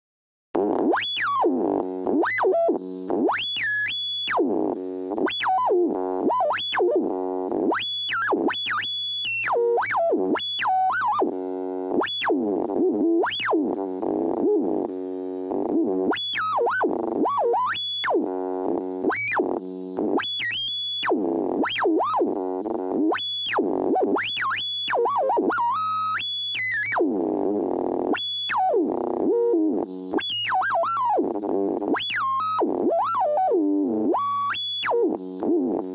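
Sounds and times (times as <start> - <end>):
buzzy radio bursts: 0.6 - 35.9.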